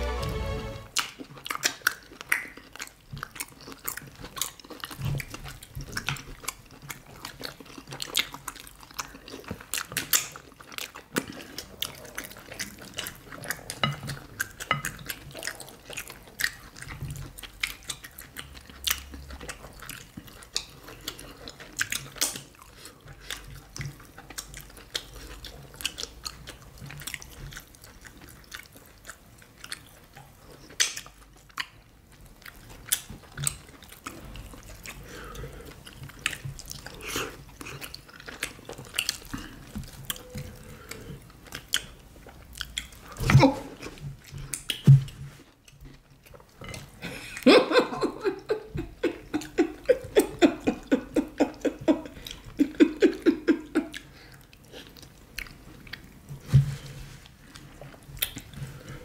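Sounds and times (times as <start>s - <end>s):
wet chewing and lip smacks: 1.0s - 47.5s, 48.2s - 56.6s, 57.2s - 59.0s.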